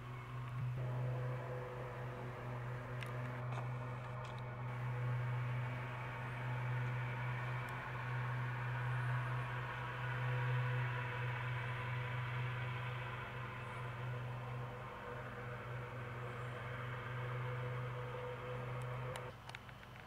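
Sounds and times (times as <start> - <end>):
low hum: 0.0 - 19.4.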